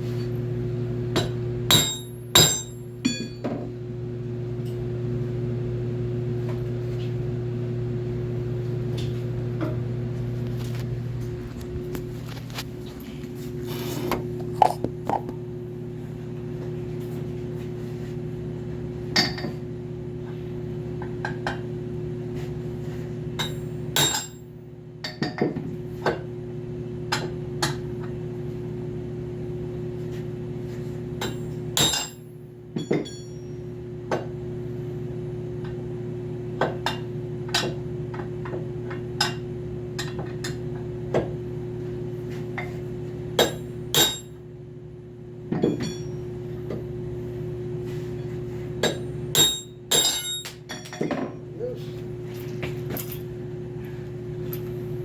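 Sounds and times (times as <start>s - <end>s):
steady low hum: 0.0s - 24.8s, 25.8s - 55.0s.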